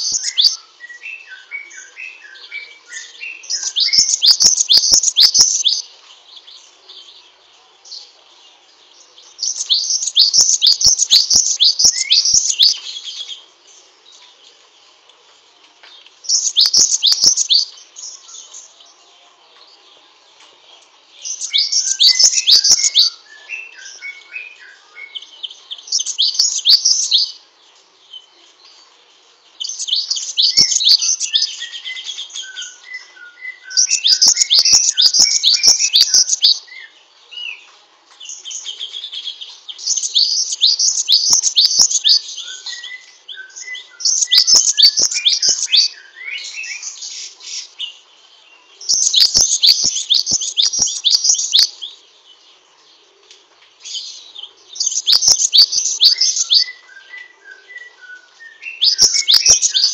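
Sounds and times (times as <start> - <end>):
bird chattering song: 0.0 - 7.3, 9.2 - 14.3, 16.2 - 18.9, 21.2 - 27.4, 29.5 - 52.1, 53.8 - 59.9.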